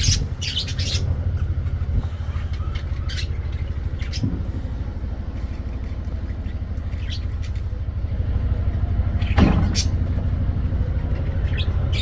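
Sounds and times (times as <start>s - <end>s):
low rumble: 0.0s - 12.0s
parakeets chirping: 0.0s - 12.0s.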